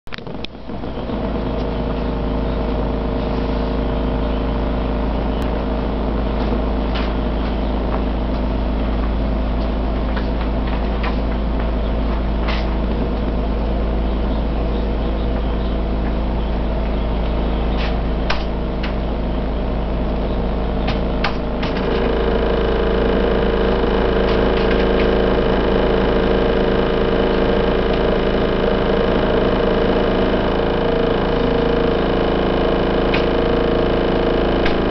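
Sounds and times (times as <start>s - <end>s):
deep rumble of road roller: 0.1s - 34.9s
diesel engine hum: 0.1s - 34.9s.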